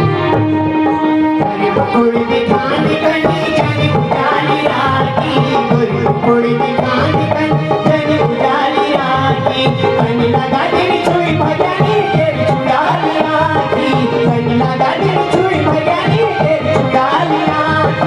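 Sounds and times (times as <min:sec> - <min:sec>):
folk melody instrument: 0:00.0 - 0:18.0.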